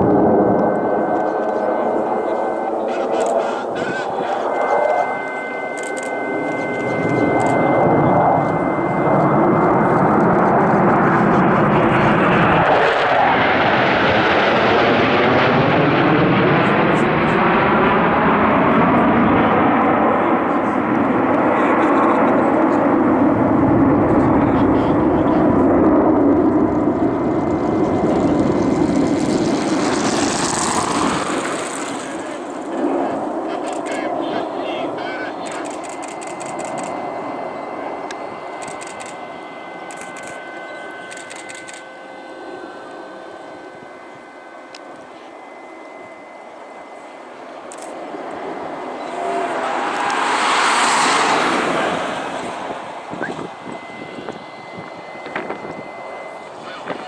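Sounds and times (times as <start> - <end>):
jet engine noise overhead: 0.0 - 57.0.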